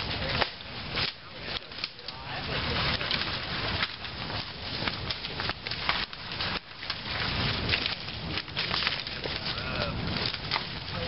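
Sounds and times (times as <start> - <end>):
branches cracking and snapping: 0.0 - 11.0.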